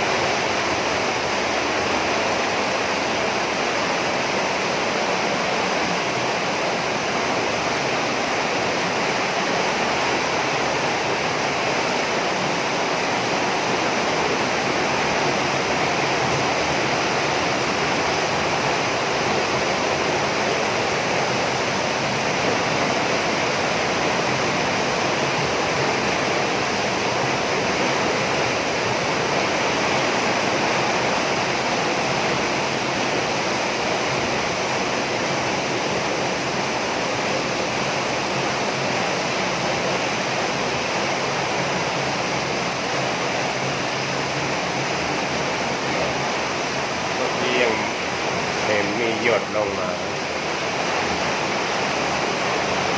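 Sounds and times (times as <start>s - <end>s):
heavy rain on a roof: 0.0s - 52.9s.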